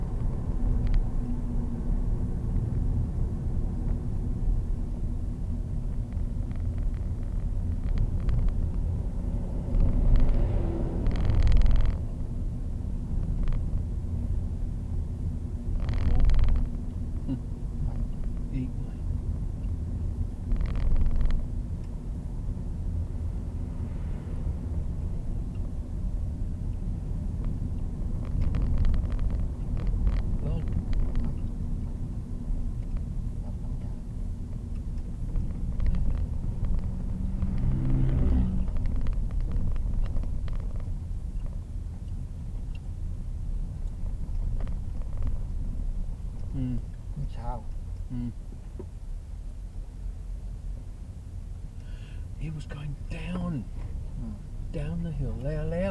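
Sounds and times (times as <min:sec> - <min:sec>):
vehicle low rumble: 0:00.0 - 0:55.9.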